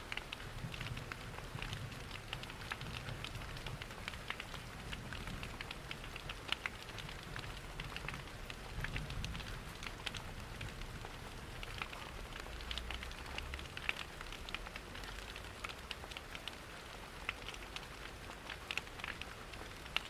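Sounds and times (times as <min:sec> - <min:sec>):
rain pattering: 0:00.0 - 0:20.0
wood fire crackling and popping: 0:00.0 - 0:20.0.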